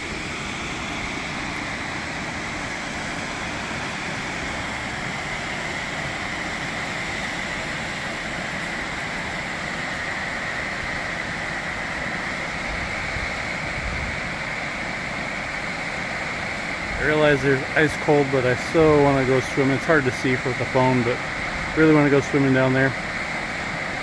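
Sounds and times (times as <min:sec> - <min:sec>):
distant waterfall rushing: 0:00.0 - 0:24.0.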